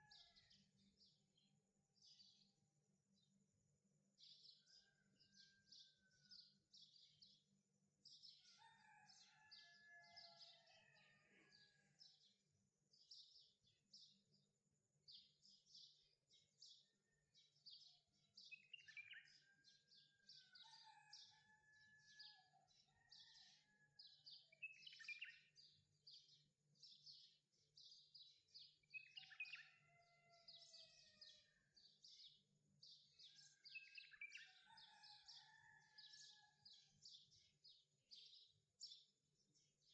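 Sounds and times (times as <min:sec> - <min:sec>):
faint birdsong chirps and trills: 0:00.0 - 0:39.9.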